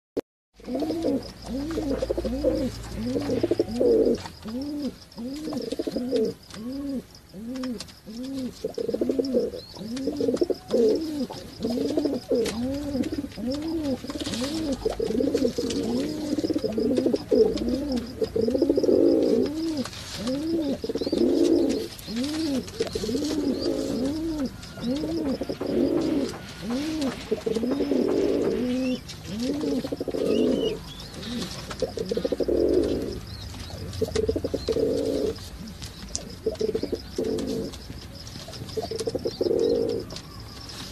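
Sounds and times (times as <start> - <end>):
pigeons cooing: 0.6 - 40.9.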